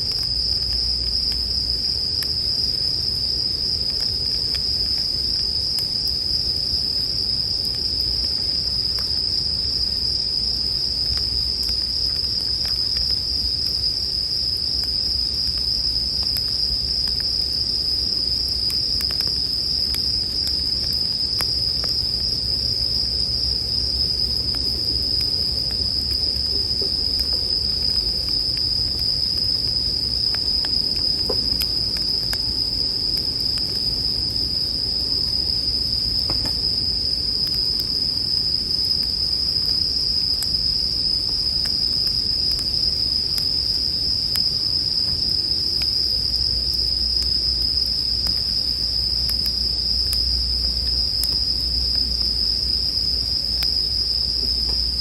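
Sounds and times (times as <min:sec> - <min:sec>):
campfire crackling: 0:00.0 - 0:55.0
crickets trilling: 0:00.0 - 0:55.0.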